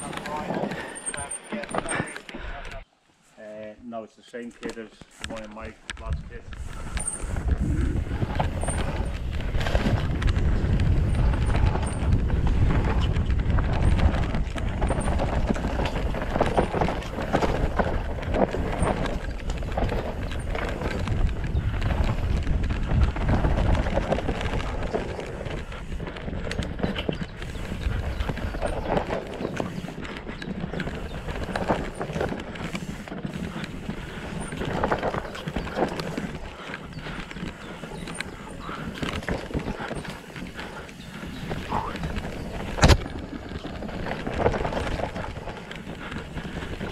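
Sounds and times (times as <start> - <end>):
bike rattling over bumps: 0.0 - 2.7, 4.6 - 46.9
tyres running over dirt: 0.0 - 2.8, 4.4 - 46.9
wind buffeting microphone: 5.6 - 46.9.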